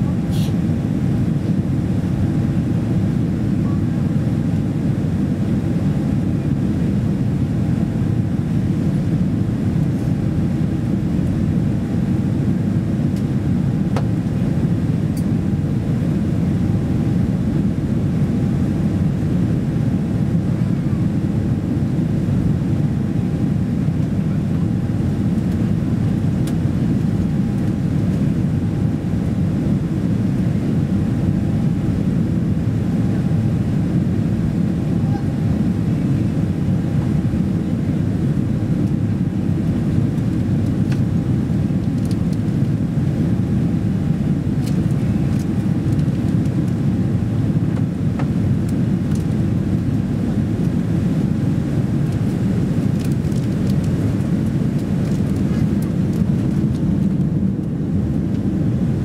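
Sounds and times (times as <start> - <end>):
airliner cabin engine roar: 0.0 - 59.0.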